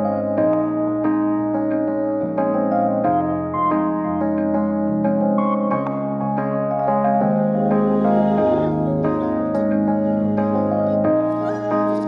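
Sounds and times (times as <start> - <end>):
keyboard playing sustained chords: 0.0 - 12.0.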